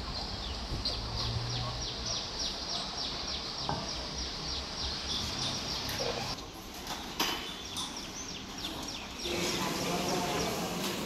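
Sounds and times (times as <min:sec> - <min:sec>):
small birds chirping: 0:00.0 - 0:06.4, 0:07.3 - 0:10.8.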